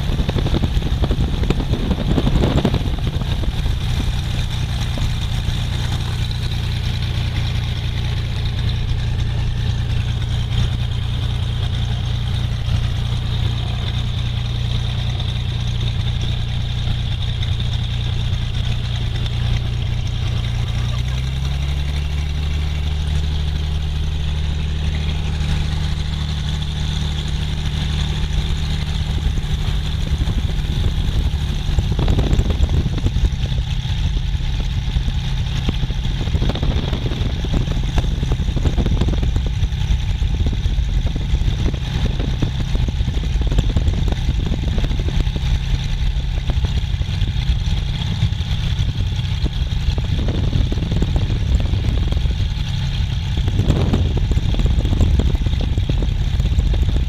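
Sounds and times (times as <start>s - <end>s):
propeller plane engine: 0.0s - 57.0s.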